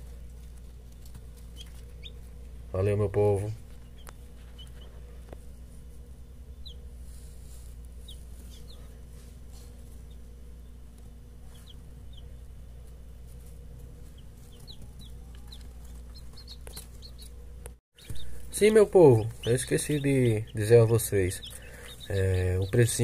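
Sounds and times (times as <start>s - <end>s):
baby chicks peeping: 0.0s - 23.0s
steady low hum: 0.0s - 23.0s.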